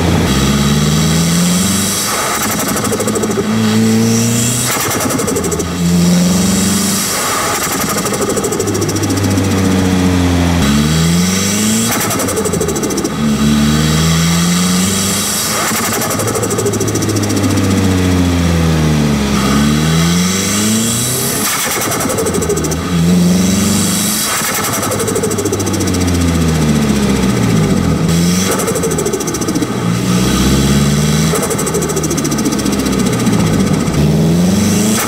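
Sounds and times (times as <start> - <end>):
turbo flutter chattering: 0.0 - 35.0
turbocharged car engine revving: 0.0 - 35.0.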